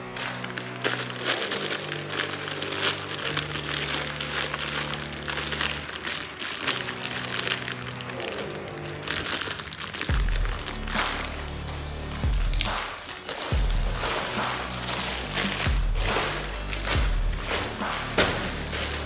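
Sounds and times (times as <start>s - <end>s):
music with low held notes: 0.0s - 19.0s
plastic bag crinkling: 0.0s - 19.0s.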